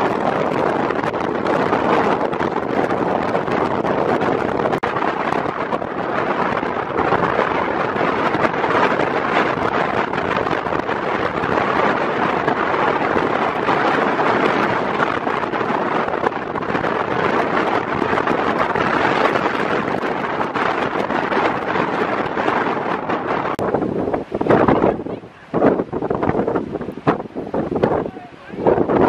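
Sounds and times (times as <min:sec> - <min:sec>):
heavy surf breaking: 0:00.0 - 0:29.0
wind buffeting microphone: 0:00.0 - 0:29.0.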